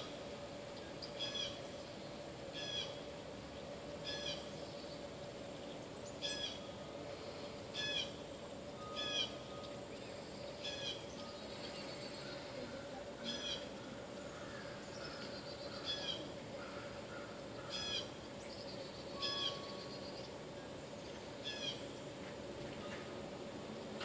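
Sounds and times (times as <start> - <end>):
faint bird chirping: 0.0 - 23.2
steady low hum: 0.0 - 24.0.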